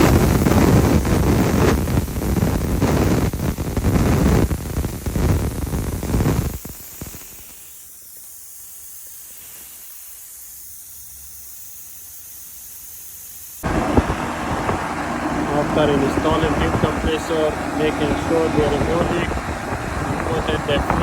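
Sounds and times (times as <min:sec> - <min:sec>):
gas venting hiss: 0:00.0 - 0:21.0.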